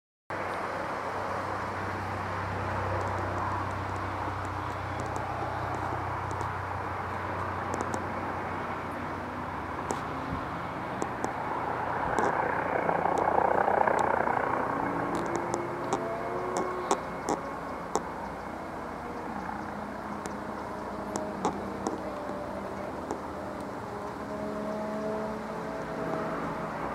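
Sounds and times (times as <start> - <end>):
helicopter drone: 0.4 - 26.9.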